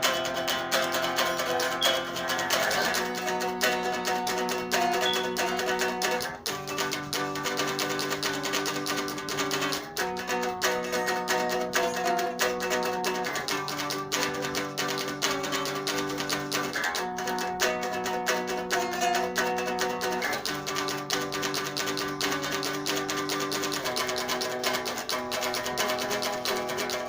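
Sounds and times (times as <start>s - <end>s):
acoustic guitar picking: 0.0s - 27.0s.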